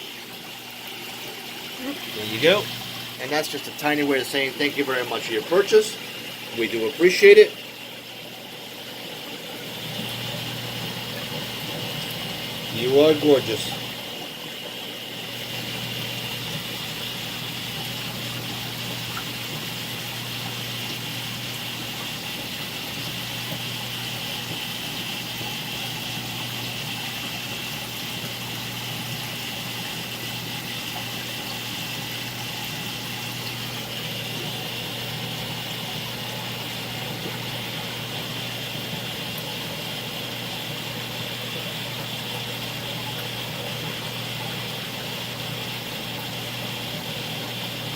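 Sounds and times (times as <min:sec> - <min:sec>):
aquarium pumps humming: 0:00.0 - 0:47.9.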